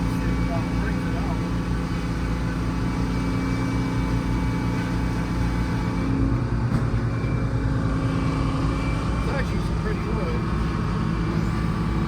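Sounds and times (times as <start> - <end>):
sawmill engine drone: 0.0 - 12.0.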